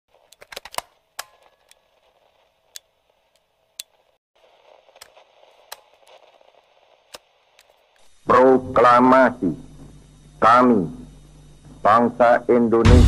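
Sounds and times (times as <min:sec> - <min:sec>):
static hiss with clicks: 0:00.1 - 0:12.8.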